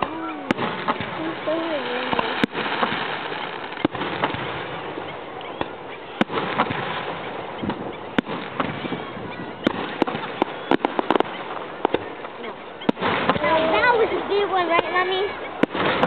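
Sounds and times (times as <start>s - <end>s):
fireworks bangs: 0.0s - 16.0s
steady hiss: 0.0s - 16.0s.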